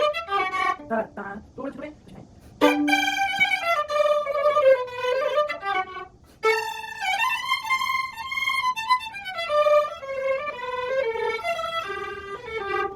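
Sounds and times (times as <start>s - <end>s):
violin playing melody: 0.0s - 1.0s, 2.6s - 12.9s.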